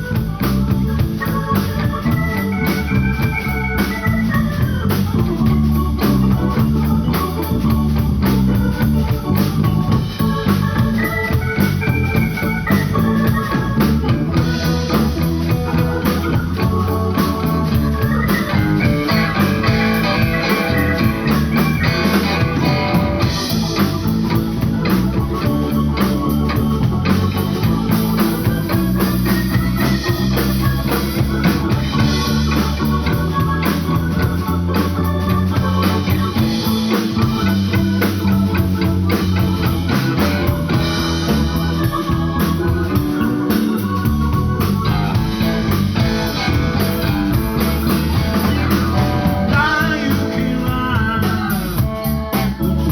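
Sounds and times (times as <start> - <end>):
bass: 0.0 - 52.9
drum kit: 0.0 - 52.9
electric guitar: 0.0 - 52.9.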